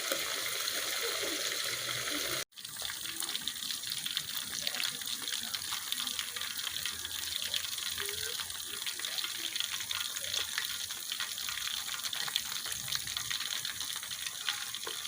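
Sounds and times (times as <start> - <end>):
fish sizzling in hot oil: 0.0 - 15.0.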